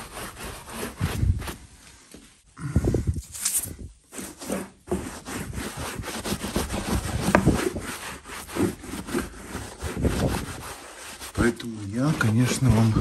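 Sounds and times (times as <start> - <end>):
brush scrubbing upholstery: 0.0 - 1.7, 4.1 - 13.0.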